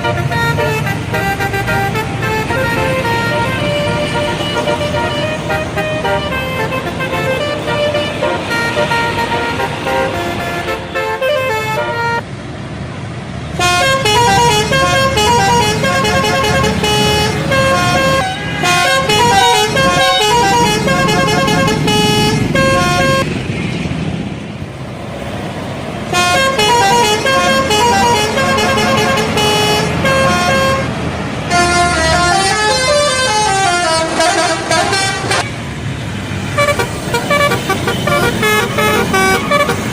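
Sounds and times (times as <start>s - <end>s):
bus air horns playing melodies: 0.0s - 12.2s, 13.6s - 23.3s, 26.1s - 35.5s, 36.4s - 39.9s
bus engines rumbling: 0.0s - 39.9s.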